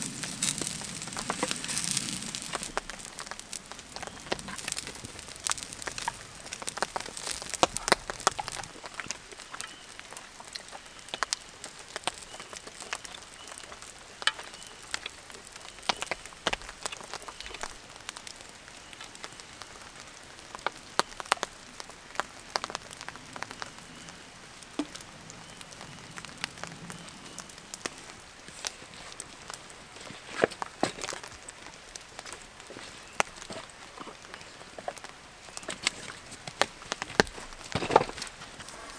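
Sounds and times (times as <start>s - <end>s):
raindrops tapping close by: 0.0s - 38.9s
steady rain hiss: 0.0s - 38.9s.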